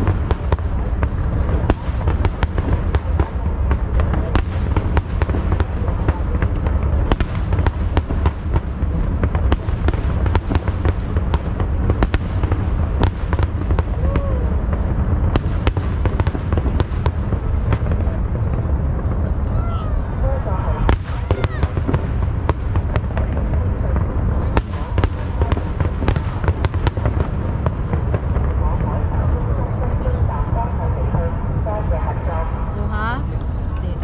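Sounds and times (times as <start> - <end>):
fireworks cracks and bangs: 0.0 - 33.2.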